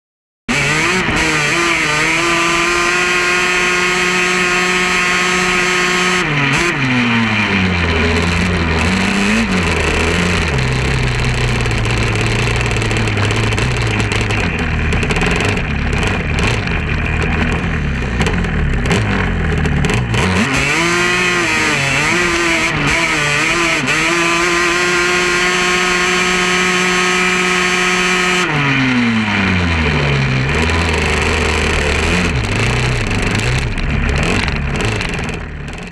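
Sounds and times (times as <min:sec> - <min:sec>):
quad engine revving: 0:00.5 - 0:35.9.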